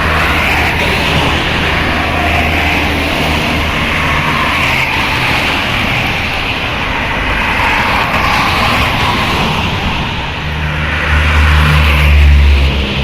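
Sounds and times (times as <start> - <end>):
bus engine humming: 0.0 - 13.0
road and traffic noise: 0.0 - 13.0.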